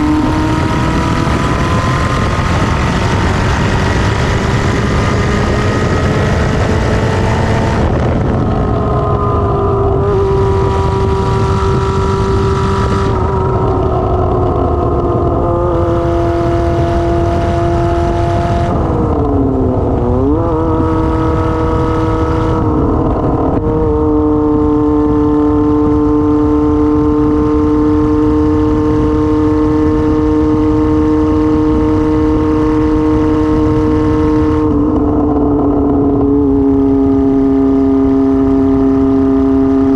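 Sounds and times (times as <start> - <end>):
constant low rush: 0.0 - 39.9
loud unmuffled motorcycle engine: 0.0 - 39.9.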